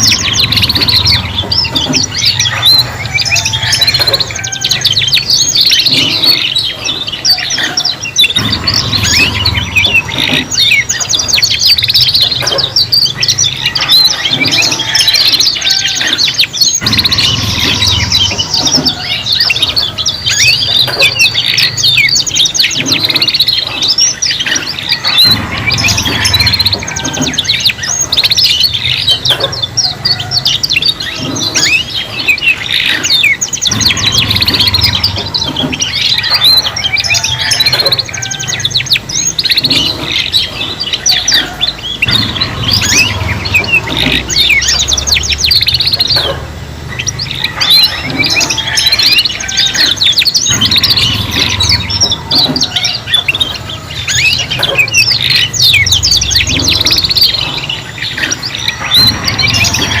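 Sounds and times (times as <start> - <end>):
canaries trilling and chirping: 0.0 - 60.0.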